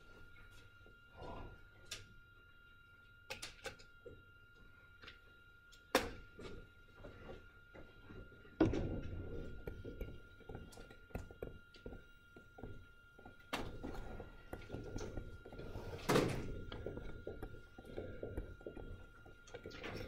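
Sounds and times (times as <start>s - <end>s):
knocks and clicks in a room: 0.0s - 20.0s.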